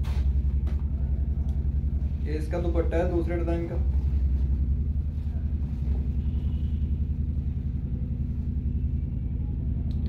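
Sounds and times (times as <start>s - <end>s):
low fluttering rumble: 0.0s - 10.0s.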